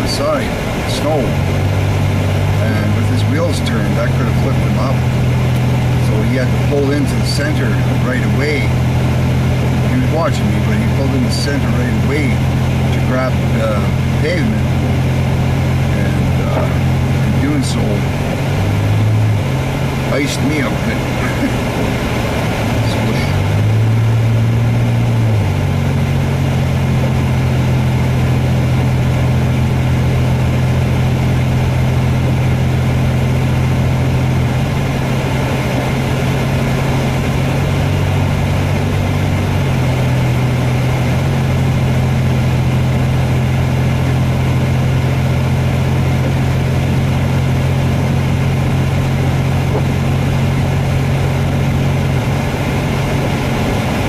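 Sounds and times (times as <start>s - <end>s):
car engine droning: 0.0s - 54.0s
tyres on wet slushy road: 0.0s - 54.0s.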